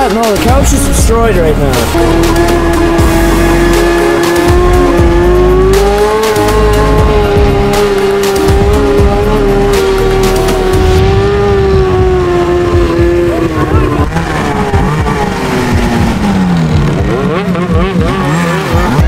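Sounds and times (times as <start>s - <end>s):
snowmobile engine at high revs: 0.0s - 19.0s.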